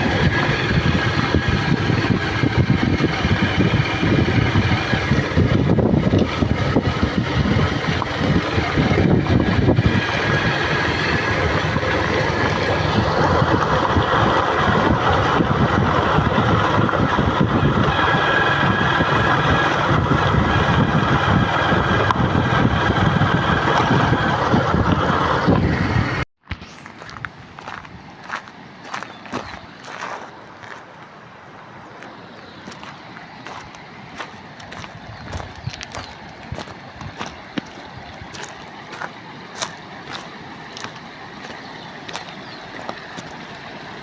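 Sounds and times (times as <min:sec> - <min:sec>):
wind buffeting microphone: 0:00.0 - 0:26.2, 0:32.6 - 0:44.0
vehicle engine and road noise: 0:00.0 - 0:44.0.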